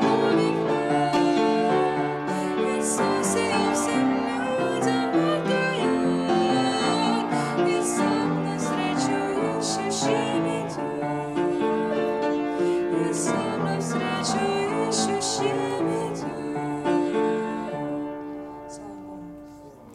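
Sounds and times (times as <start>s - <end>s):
upright piano: 0.0s - 19.9s
woman singing: 0.0s - 19.9s.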